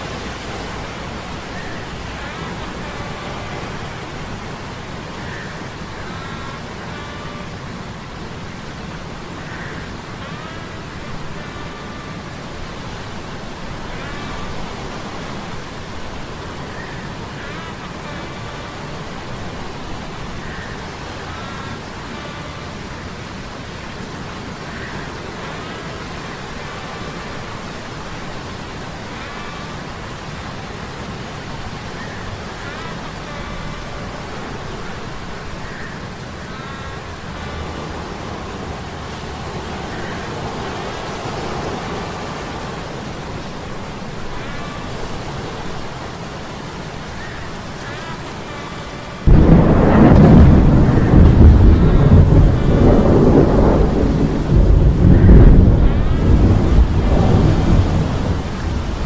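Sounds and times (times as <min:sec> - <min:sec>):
rain and surf hissing: 0:00.0 - 0:59.0.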